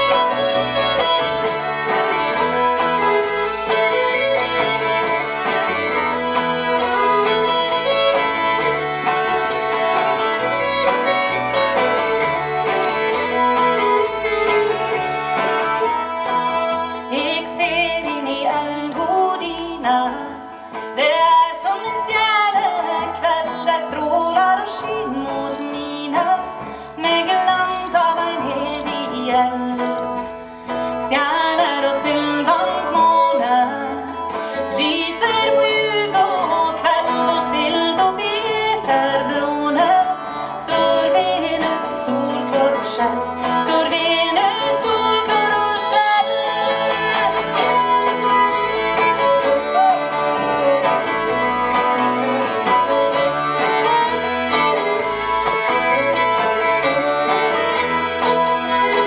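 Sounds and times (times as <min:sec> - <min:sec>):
fiddles playing melody: 0:00.0 - 0:59.0.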